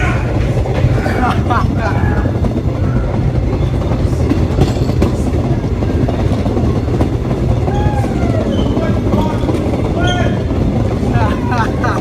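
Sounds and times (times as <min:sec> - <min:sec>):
rail clicks: 0:00.0 - 0:12.0
subway train wheels rumbling: 0:00.0 - 0:12.0.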